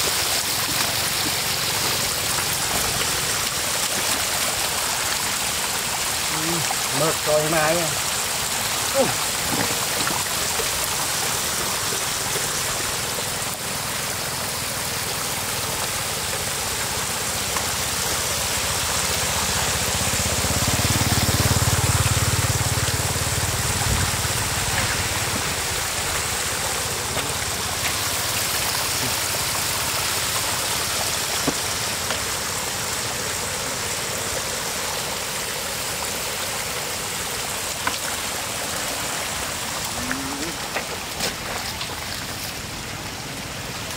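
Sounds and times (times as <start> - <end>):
floodwater running over a bank: 0.0 - 43.9.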